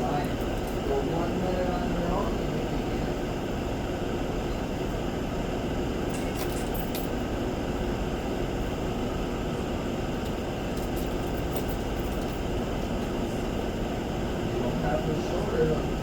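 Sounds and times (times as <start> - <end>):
ventilation fan noise: 0.0 - 16.0.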